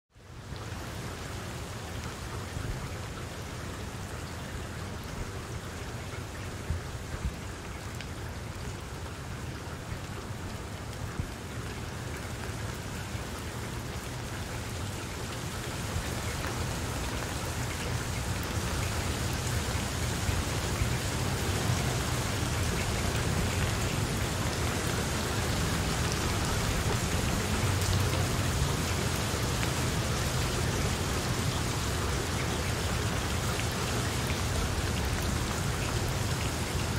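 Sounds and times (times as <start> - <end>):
rain falling on leaves: 0.1 - 36.9.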